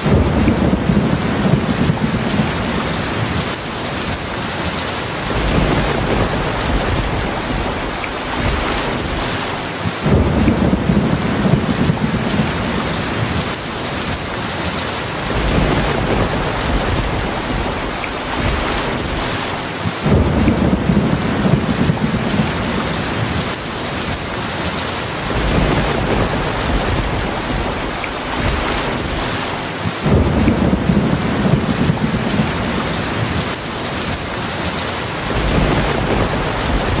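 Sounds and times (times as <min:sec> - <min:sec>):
heavy rain falling: 0:00.0 - 0:37.0
thunder rumbling: 0:00.0 - 0:37.0.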